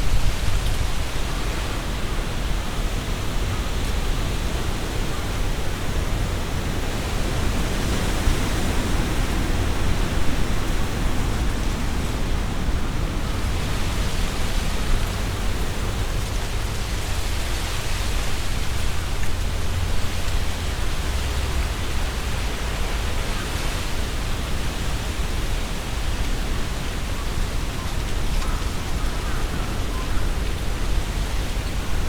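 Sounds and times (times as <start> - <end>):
leaves rustling in gusty wind: 0.0 - 32.0
wind buffeting microphone: 0.0 - 32.0.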